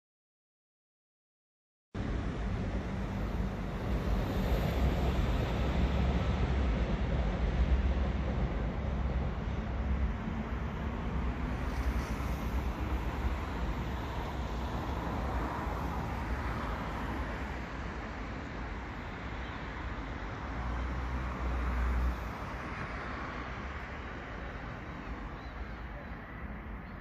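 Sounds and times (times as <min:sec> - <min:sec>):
distant road traffic hum: 0:02.0 - 0:27.0.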